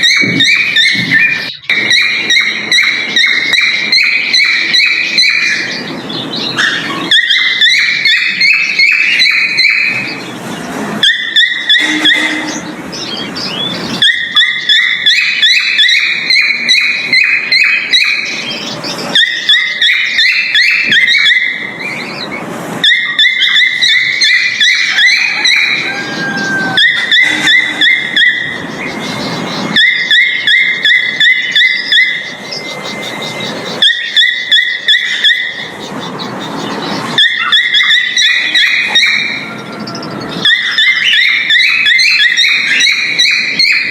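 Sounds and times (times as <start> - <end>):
cockatiel chirping rapidly: 0.0 - 10.2, 11.0 - 43.9.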